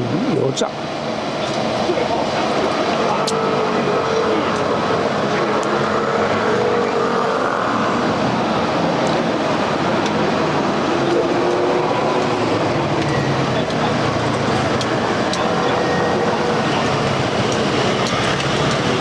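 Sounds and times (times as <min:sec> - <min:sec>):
crowd noise: 0:00.0 - 0:19.0.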